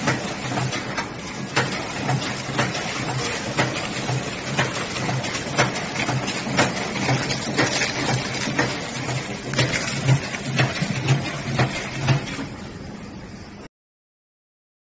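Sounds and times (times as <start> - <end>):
machine clicking: 0.0 - 12.6
packaging machine humming: 0.0 - 13.5.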